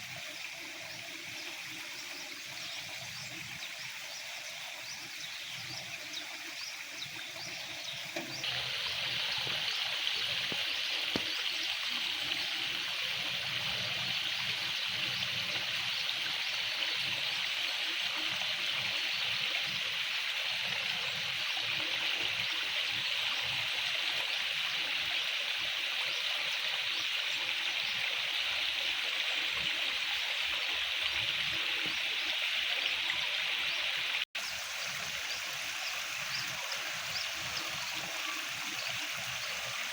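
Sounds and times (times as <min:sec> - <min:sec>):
water trickling and running: 0:00.0 - 0:39.9.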